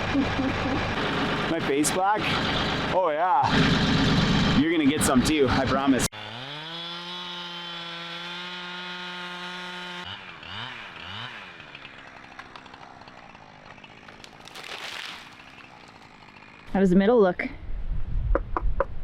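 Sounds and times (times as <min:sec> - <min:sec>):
chainsaw revving: 0:00.0 - 0:16.8.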